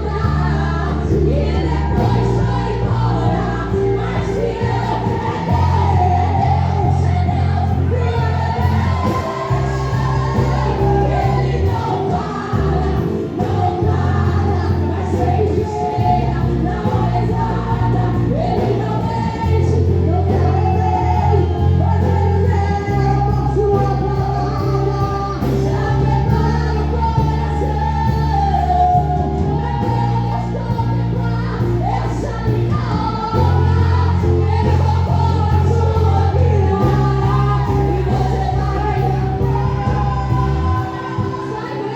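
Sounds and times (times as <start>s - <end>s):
bass line and steady beat: 0.0s - 41.6s
gospel worship singing: 0.0s - 41.9s.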